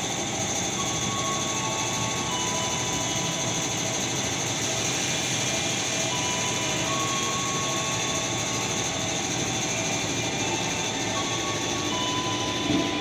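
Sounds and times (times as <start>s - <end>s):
electric train rumbling: 0.0s - 13.0s
train high whine: 0.0s - 13.0s.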